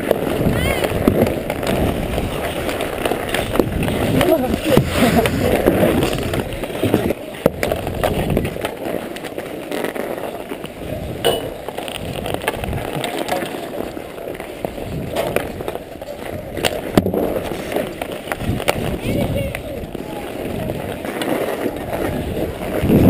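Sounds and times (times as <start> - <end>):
ice skates scraping ice: 0.0 - 23.0.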